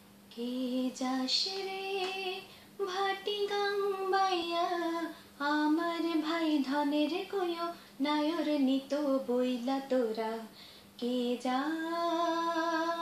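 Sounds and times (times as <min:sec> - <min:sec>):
woman singing unaccompanied: 0:00.3 - 0:13.0.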